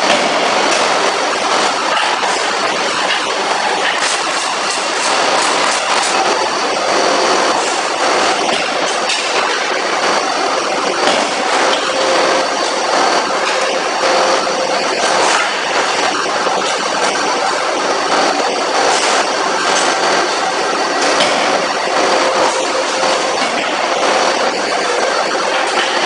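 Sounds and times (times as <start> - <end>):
machinery din: 0.0 - 26.0.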